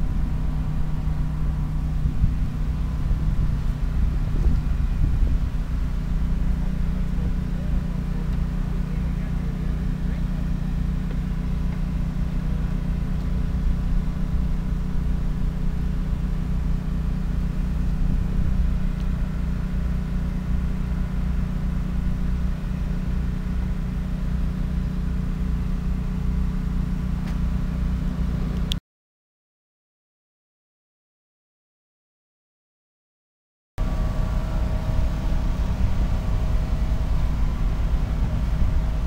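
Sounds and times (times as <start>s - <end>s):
diesel train engine hum: 0.0s - 28.8s, 33.8s - 39.0s.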